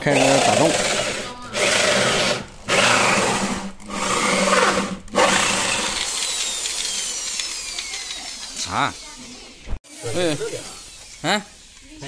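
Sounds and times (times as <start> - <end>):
drill motor humming: 0.0 - 12.0
electric drill grinding into wall: 0.0 - 12.0.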